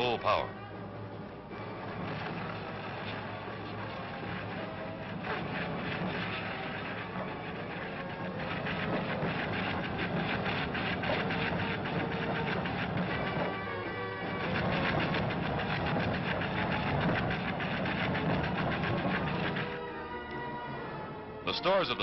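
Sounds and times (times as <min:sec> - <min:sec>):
rapid crackling: 0:01.3 - 0:19.9
lava fountain roaring: 0:01.5 - 0:19.8.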